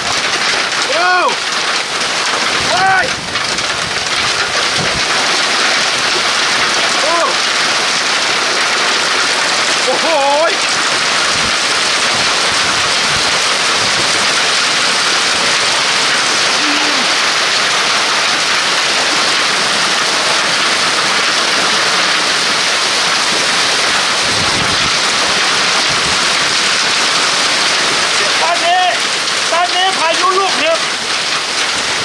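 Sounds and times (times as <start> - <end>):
hail and heavy rain pelting: 0.0 - 32.0.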